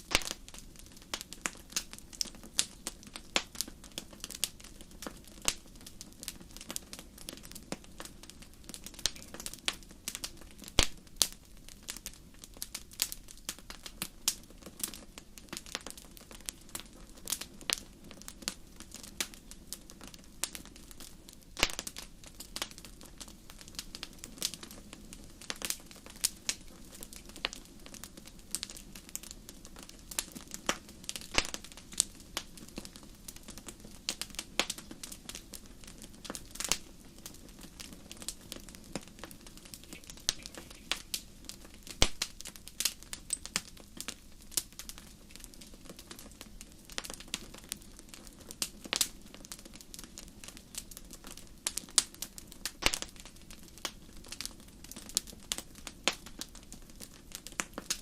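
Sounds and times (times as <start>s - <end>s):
low rush of flames: 0.0s - 55.9s
fire crackling and popping: 0.0s - 58.0s.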